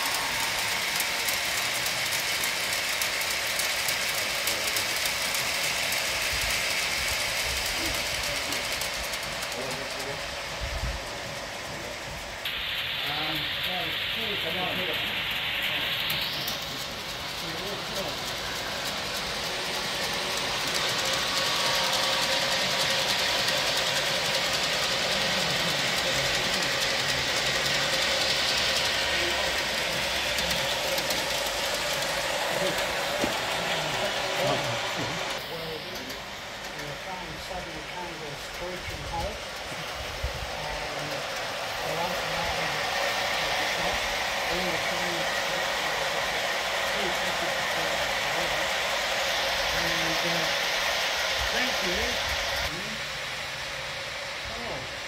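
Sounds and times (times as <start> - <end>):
model wagons clicking on track: 0.0 - 12.1, 12.8 - 52.2
model locomotive gear drive: 0.0 - 55.0.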